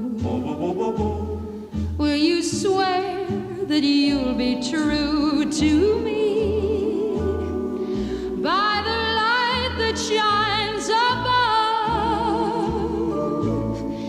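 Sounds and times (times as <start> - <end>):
song with singer and bass line: 0.0 - 14.0.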